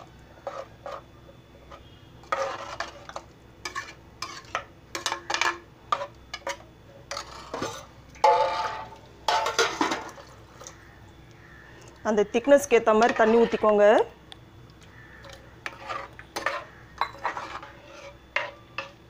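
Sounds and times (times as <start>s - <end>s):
metal spoon scraping a pot: 0.4s - 10.8s, 12.6s - 13.9s, 15.1s - 19.0s.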